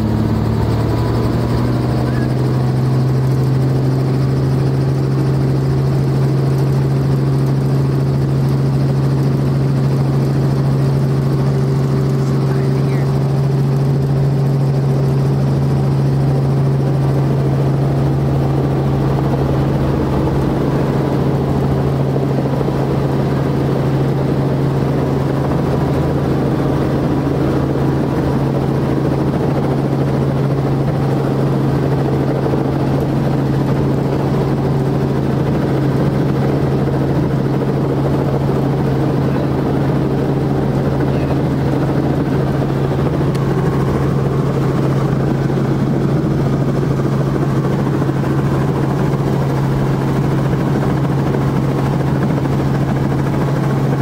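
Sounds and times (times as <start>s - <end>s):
helicopter drone from cabin: 0.0s - 54.0s.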